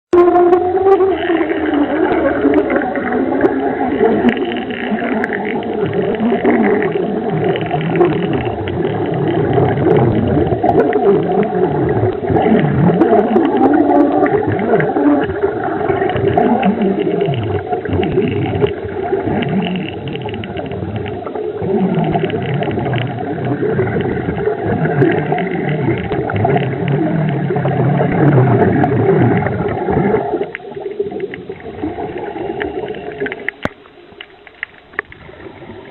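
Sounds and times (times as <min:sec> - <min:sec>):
underwater gurgling and bubbling: 0:00.1 - 0:35.9.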